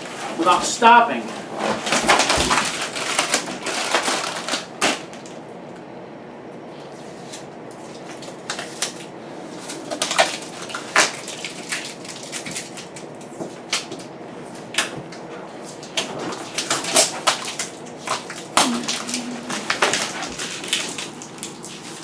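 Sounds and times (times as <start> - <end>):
plastic film peeling and crackling: 0.0 - 5.4, 7.2 - 14.9, 15.6 - 22.0.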